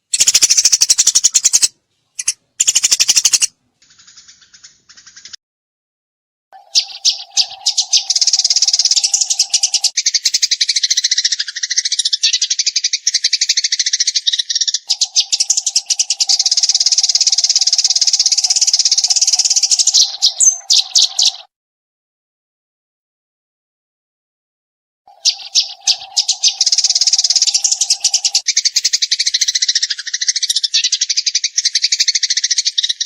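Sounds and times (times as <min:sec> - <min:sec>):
sparrow chirping rapidly: 0:00.0 - 0:05.4, 0:06.6 - 0:21.5, 0:25.1 - 0:33.0.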